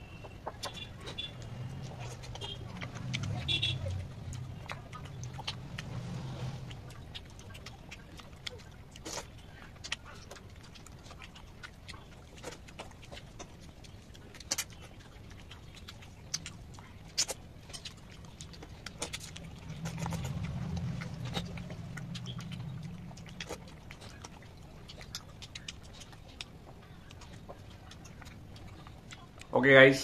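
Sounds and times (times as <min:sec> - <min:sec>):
wet chewing and lip-smacking: 0:00.0 - 0:30.0.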